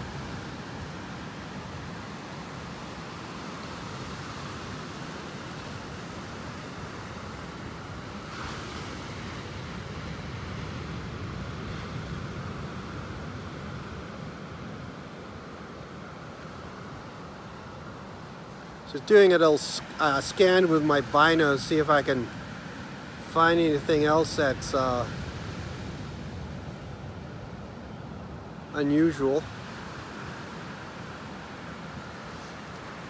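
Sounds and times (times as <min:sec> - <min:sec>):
ocean surf: 0:00.0 - 0:33.0.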